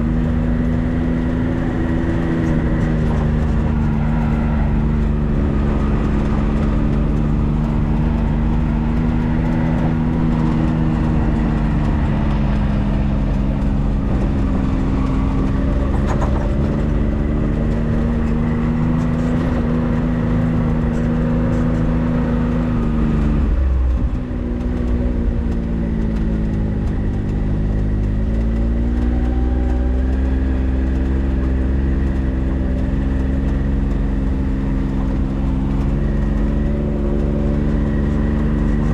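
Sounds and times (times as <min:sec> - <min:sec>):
car engine while driving: 0:00.0 - 0:38.9
low road rumble: 0:00.0 - 0:38.9.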